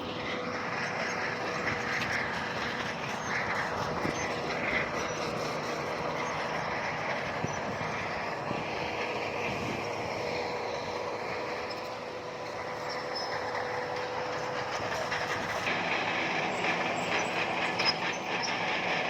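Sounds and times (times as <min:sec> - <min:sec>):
diesel engine drone: 0:00.0 - 0:19.0.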